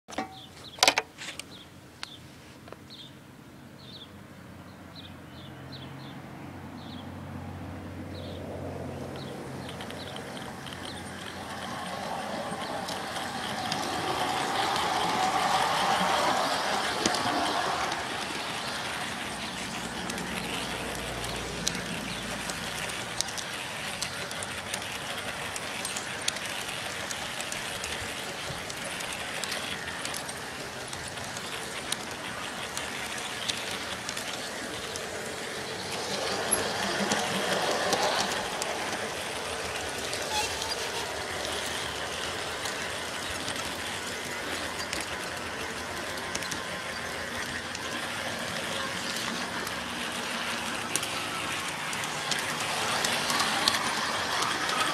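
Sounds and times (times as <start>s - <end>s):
small clicks of train: 0.1s - 3.1s, 8.2s - 54.9s
model train rolling on track: 8.2s - 54.9s.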